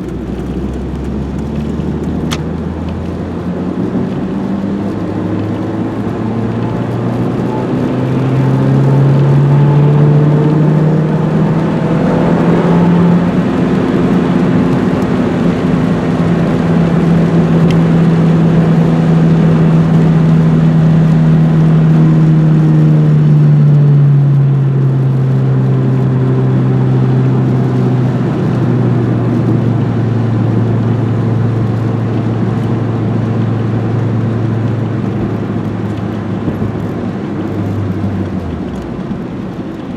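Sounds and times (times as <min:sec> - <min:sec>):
car engine under way: 0:00.0 - 0:39.9.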